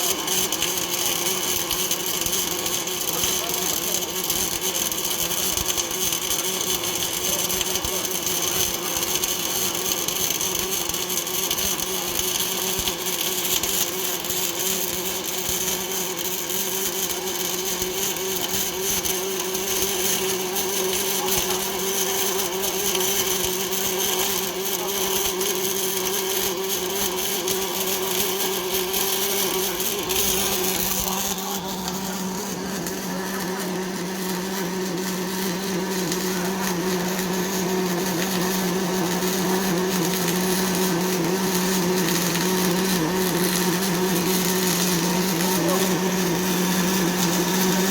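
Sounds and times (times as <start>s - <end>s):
welding machine whine: 0.0s - 47.9s.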